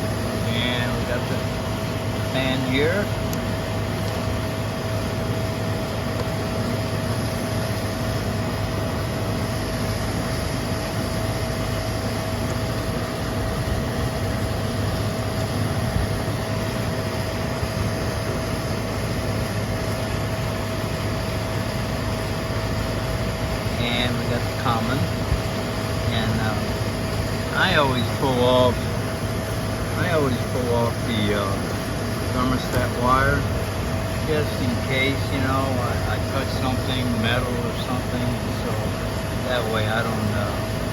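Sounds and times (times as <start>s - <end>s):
air conditioning fan running: 0.0s - 40.9s.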